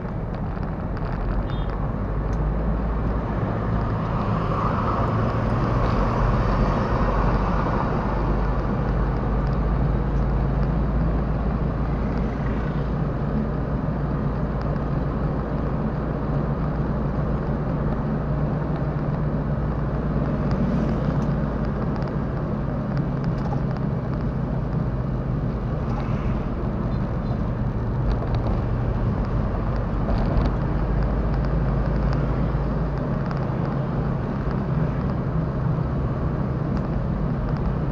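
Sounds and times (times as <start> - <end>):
car engine and tyre hum: 0.0 - 37.9.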